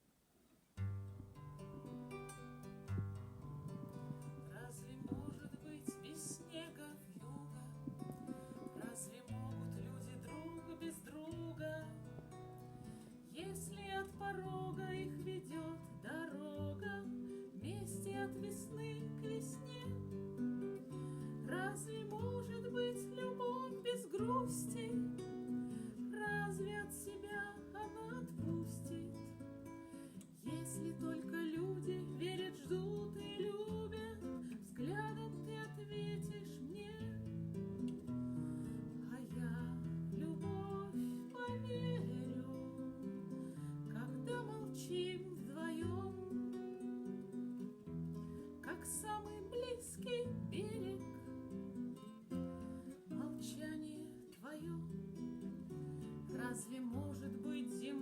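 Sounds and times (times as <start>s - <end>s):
acoustic guitar strumming: 0.8s - 53.6s.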